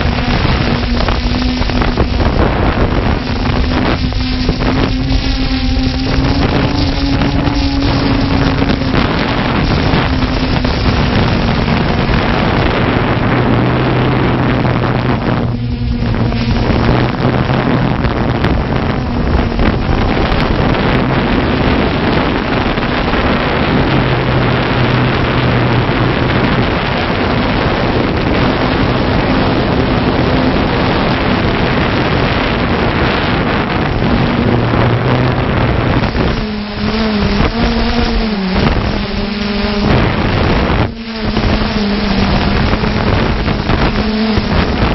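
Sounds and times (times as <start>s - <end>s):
drone rotors humming: 0.0s - 44.9s.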